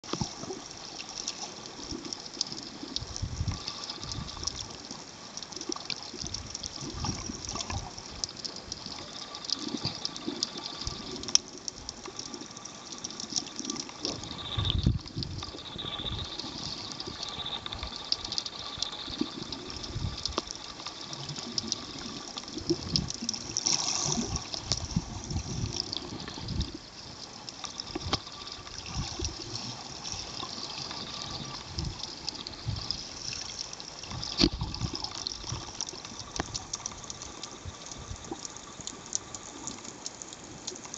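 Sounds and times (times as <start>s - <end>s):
muffled underwater sloshing and bubbling: 0.0s - 40.9s
steady crackling hiss: 0.0s - 40.9s.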